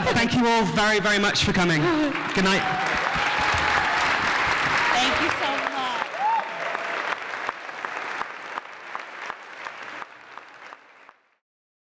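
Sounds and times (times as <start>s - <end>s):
audience applauding: 1.6s - 11.4s.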